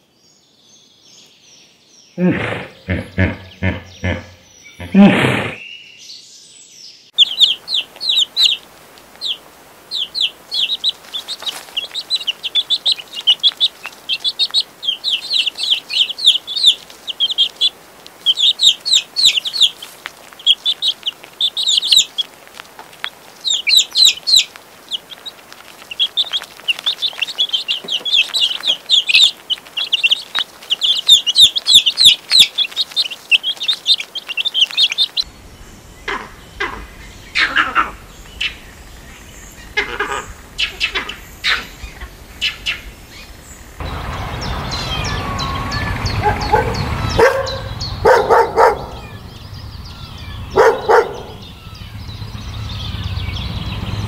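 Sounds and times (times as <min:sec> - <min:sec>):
chicks peeping: 0:02.9 - 0:05.3, 0:07.2 - 0:35.3, 0:39.6 - 0:54.0.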